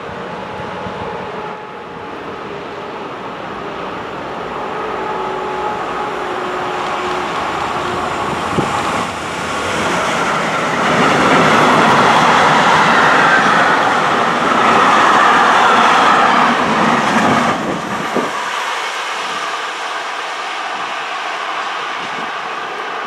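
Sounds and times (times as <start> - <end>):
train passing: 0.0 - 23.0.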